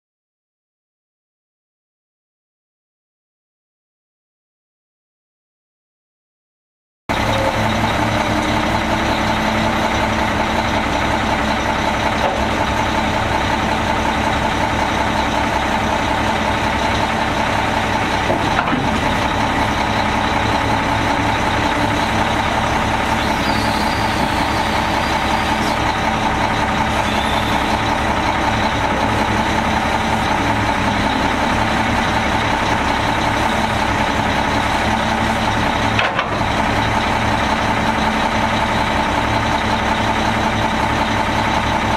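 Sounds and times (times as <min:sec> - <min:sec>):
diesel truck engine idling: 0:07.1 - 0:41.9.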